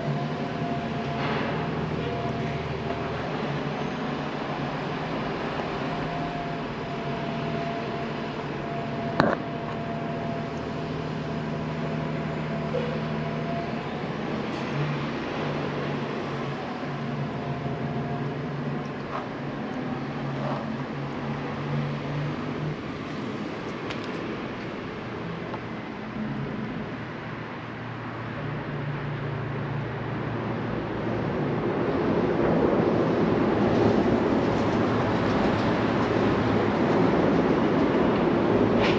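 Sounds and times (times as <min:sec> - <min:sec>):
street traffic noise: 0:00.0 - 0:38.9.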